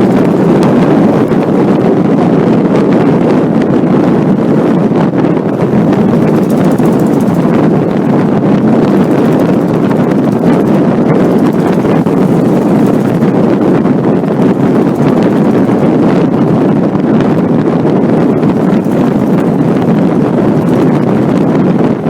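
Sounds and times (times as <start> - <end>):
car engine running loud: 0.0 - 2.6, 5.4 - 22.0
wind noise: 0.0 - 22.0.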